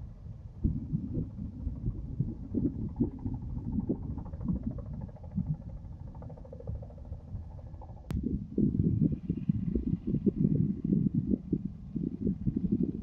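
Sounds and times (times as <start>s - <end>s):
faint distant engine drone: 0.0s - 13.0s
wind buffeting microphone: 0.0s - 13.0s.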